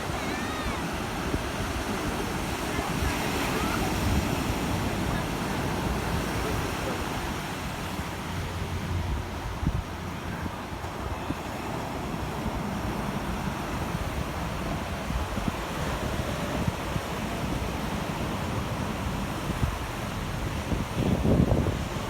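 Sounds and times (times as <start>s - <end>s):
surf on the shore: 0.0s - 22.0s
wind buffeting microphone: 0.0s - 22.0s.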